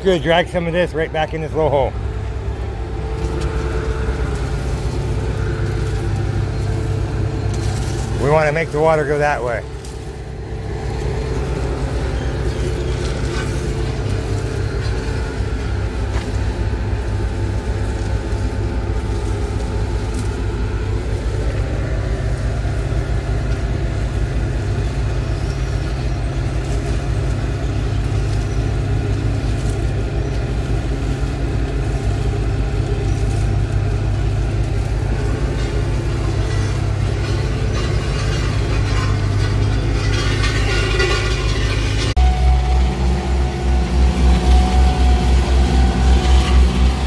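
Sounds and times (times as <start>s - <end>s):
large engine rumbling: 0.0s - 47.0s
rakes scraping through asphalt: 0.0s - 47.0s.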